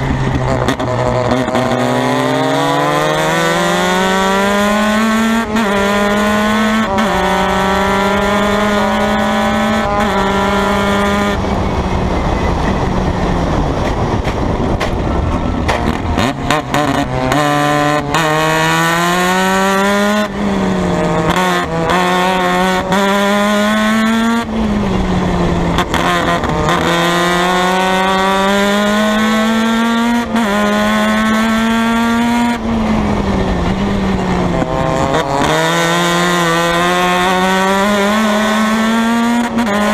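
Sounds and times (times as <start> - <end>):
race car engine at full throttle: 0.0 - 39.9.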